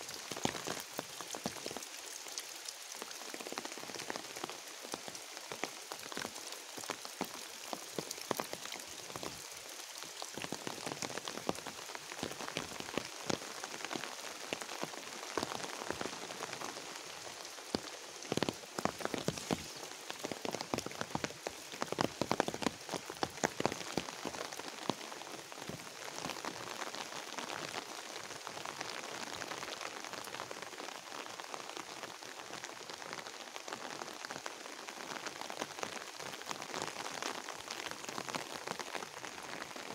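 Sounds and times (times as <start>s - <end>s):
raindrops ticking close by: 0.0s - 39.9s
steady rain on vegetation: 0.0s - 39.9s.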